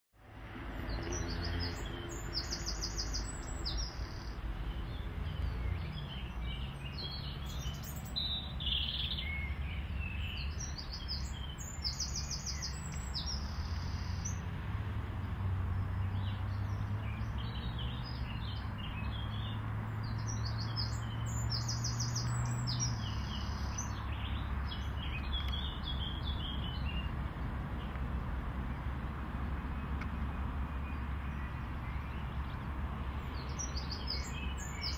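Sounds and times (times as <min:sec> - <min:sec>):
low engine hum: 0:00.2 - 0:34.9
low traffic rumble: 0:00.2 - 0:34.9
songbirds trilling: 0:00.3 - 0:34.9.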